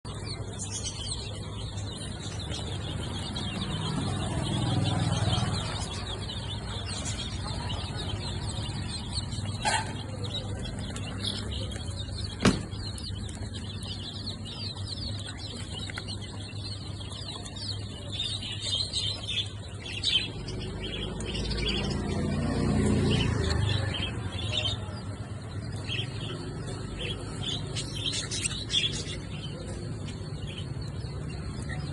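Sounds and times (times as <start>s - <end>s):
small birds chirping and twittering: 0.0s - 31.9s.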